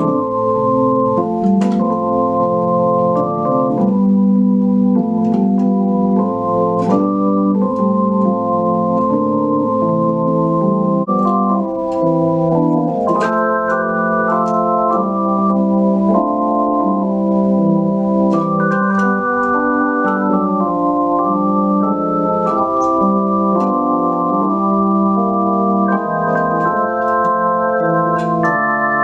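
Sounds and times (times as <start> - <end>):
organ hymn chords on keyboard: 0.0 - 29.0.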